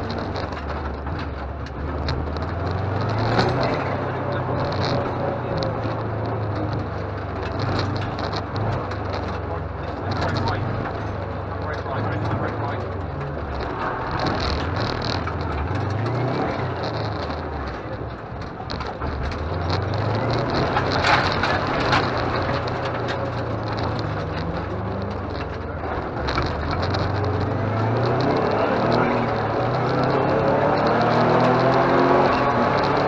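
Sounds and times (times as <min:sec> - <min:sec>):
rally car engine: 0:00.0 - 0:33.0
rattling crackling road noise: 0:00.0 - 0:33.0.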